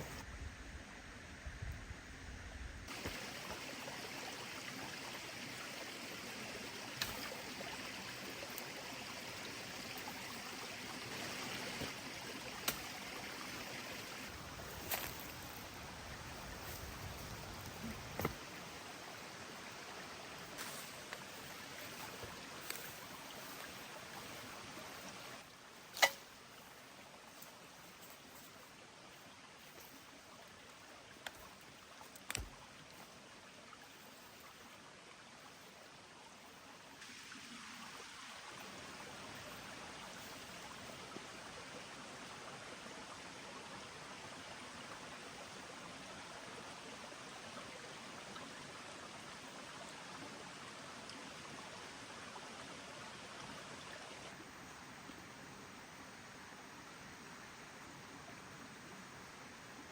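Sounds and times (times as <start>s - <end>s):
running water: 2.9s - 59.9s.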